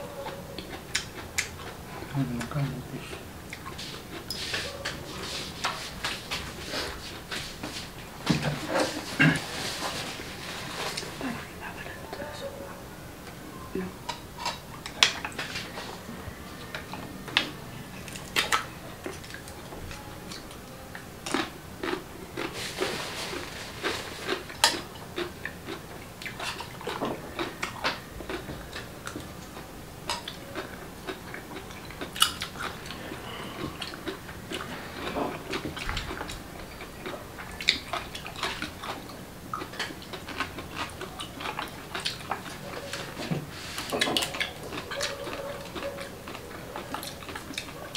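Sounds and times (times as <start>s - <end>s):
chewing: 0.0s - 13.4s, 14.0s - 47.9s.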